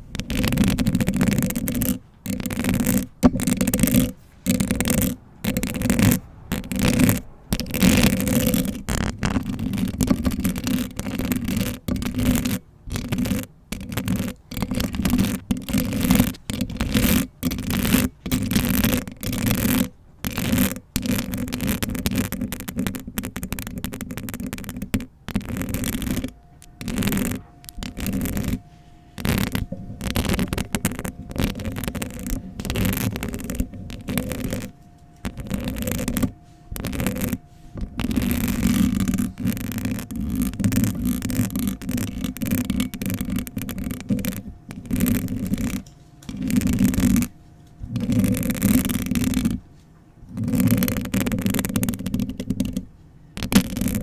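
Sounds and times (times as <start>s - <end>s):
fingernails scratching microphone: 0.0s - 49.7s, 50.3s - 54.0s
faint steady hum: 0.0s - 54.0s.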